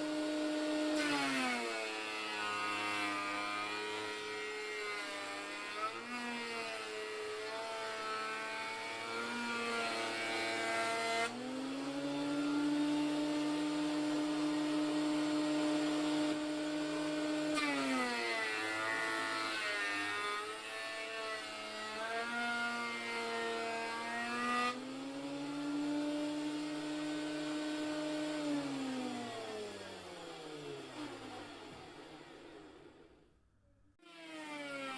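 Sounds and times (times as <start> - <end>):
bandsaw mill cutting log: 0.0 - 33.2.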